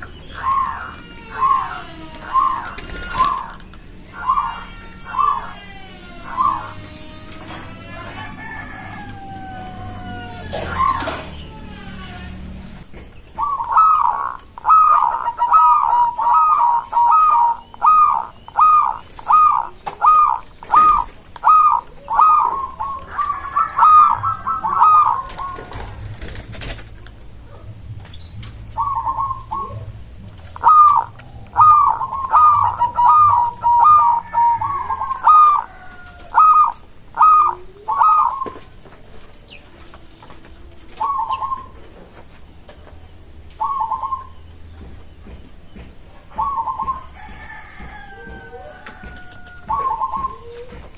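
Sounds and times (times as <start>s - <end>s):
dove cooing: 0.0s - 27.7s, 28.6s - 42.3s, 43.5s - 44.4s, 46.3s - 50.9s.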